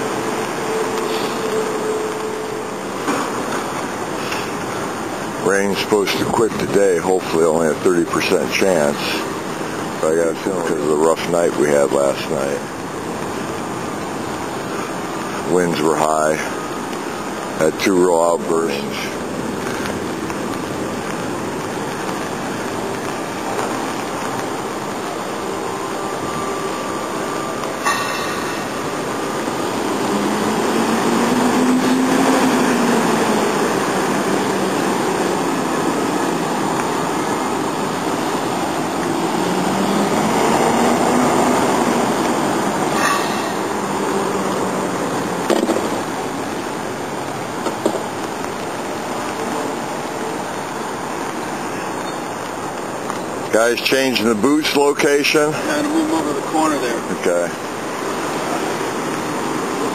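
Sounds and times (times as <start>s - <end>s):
city street traffic: 0.0s - 59.9s
heavy vehicles passing by: 0.0s - 59.9s.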